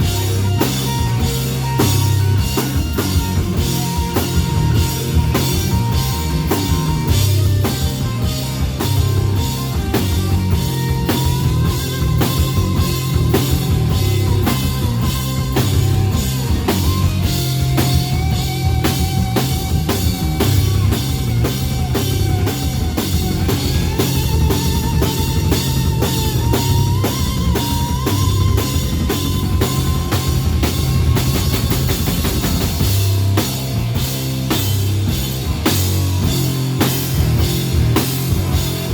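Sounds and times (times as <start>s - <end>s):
bending lead guitar notes: 0.0s - 38.9s
drum kit with cymbals: 0.0s - 38.9s
heavy bass line: 0.0s - 38.9s
heavy rock music: 0.0s - 38.9s.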